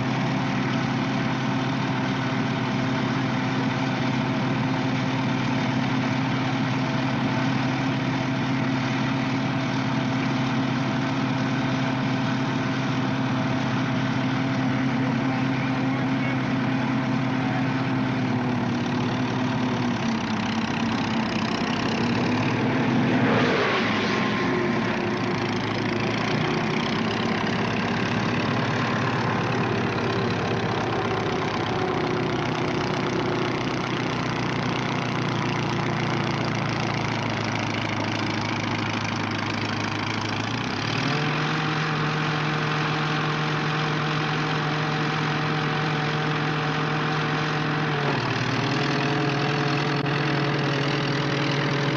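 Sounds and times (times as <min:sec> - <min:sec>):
tank engine running: 0:00.0 - 0:51.9.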